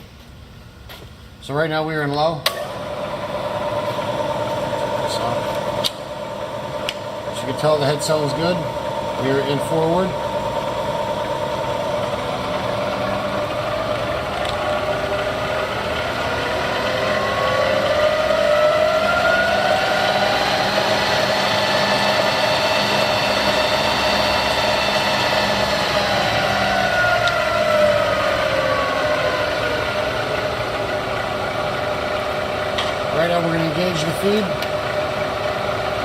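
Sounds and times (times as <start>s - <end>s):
milling machine spindle whine: 2.6s - 36.0s.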